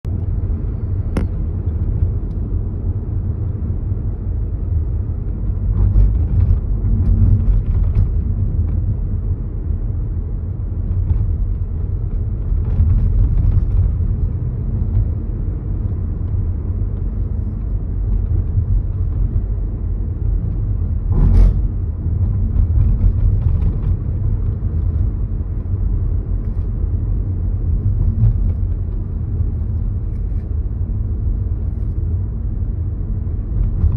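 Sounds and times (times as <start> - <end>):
road and tyre rumble: 0.0 - 33.9.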